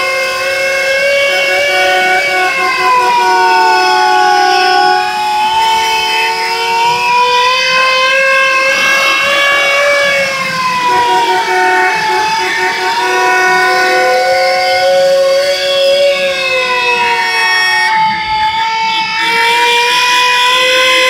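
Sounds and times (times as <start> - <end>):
sirens wailing: 0.0 - 21.0.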